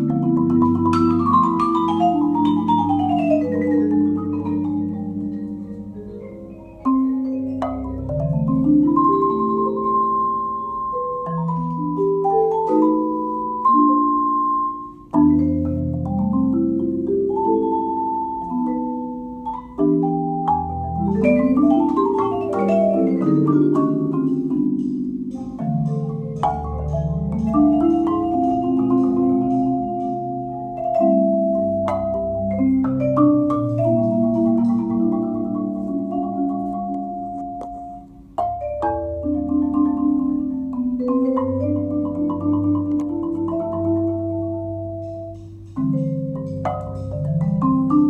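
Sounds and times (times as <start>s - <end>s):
jazz on mallet keyboard: 0.0s - 48.0s.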